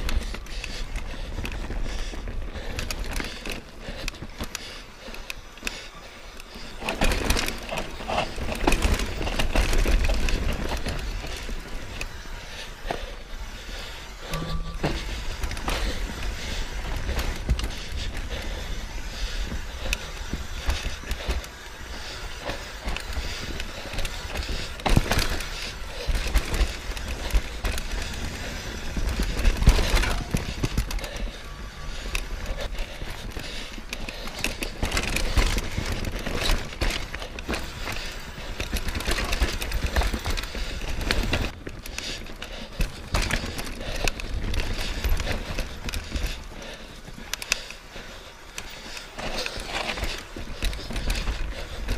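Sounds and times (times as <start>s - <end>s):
bike clicks and rattles: 0.0s - 51.9s
tyres running over rock: 6.2s - 51.9s.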